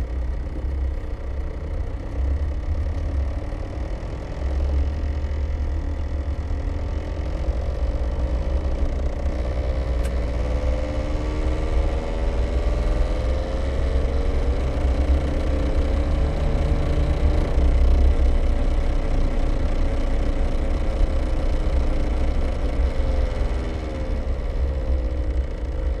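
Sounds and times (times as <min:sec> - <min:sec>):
car driveline rumble and whine: 0:00.0 - 0:26.0.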